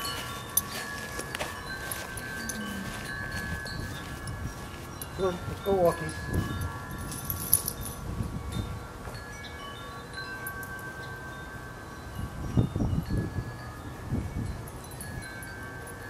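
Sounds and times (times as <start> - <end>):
wind buffeting microphone: 0.0 - 9.6, 10.2 - 16.0
wind chimes ringing: 0.0 - 16.0.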